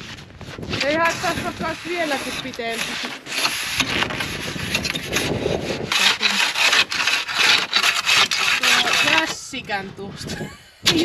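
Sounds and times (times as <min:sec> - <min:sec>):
saw scraping through snow: 0:00.0 - 0:09.9.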